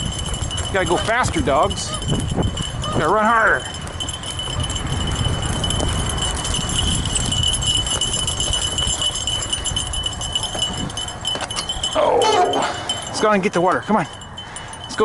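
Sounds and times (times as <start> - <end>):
wide tyres rumbling on dirt: 0.0 - 12.0
high-pitched ringing: 0.0 - 15.0.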